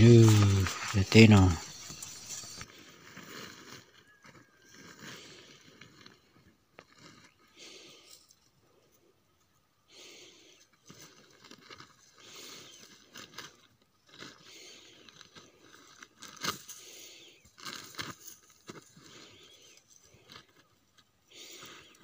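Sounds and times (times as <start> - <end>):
crunching of dry material: 0.0 - 8.3, 10.1 - 22.0.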